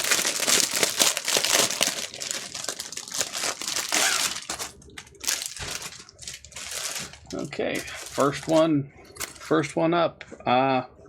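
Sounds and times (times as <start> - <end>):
crinkly packaging crackling: 0.0 - 9.7.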